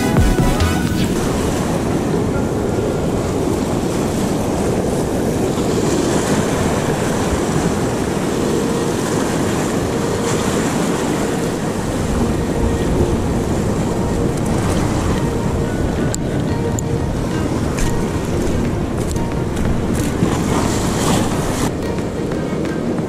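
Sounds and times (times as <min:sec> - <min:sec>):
surf washing against rocks: 0:00.0 - 0:23.0
wind buffeting microphone: 0:00.8 - 0:23.0.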